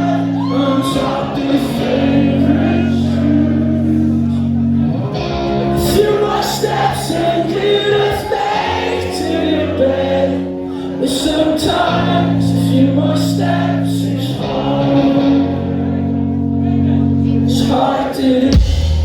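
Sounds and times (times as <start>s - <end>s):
sustained bass notes: 0.0s - 8.2s, 9.0s - 19.0s
sung vocals: 0.0s - 19.0s.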